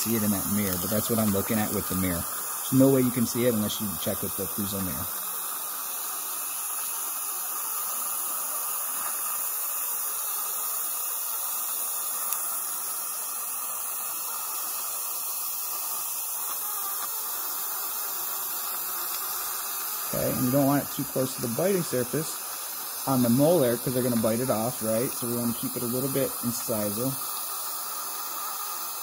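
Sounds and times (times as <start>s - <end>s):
dental suction hissing: 0.0s - 29.0s.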